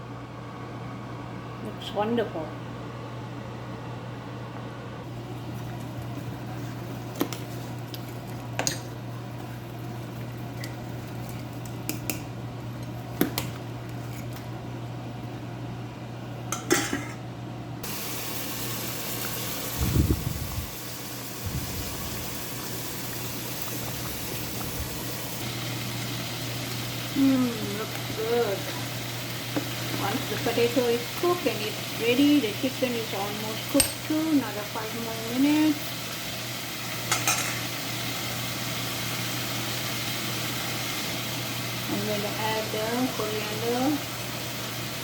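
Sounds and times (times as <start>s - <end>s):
curry boiling in a pot: 5.0s - 16.0s, 17.8s - 19.8s, 20.6s - 45.0s.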